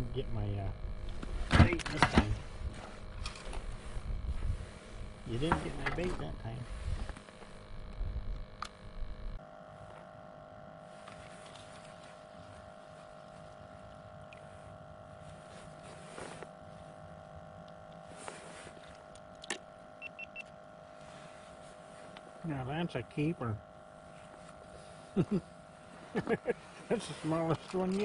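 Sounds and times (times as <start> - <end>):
steady motor drone: 0.0 - 28.0.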